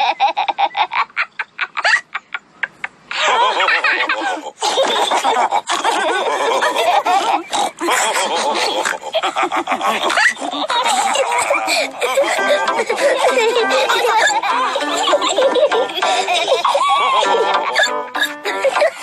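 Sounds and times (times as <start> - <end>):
cartoon pigs laughing and snorting: 0.0 - 19.0.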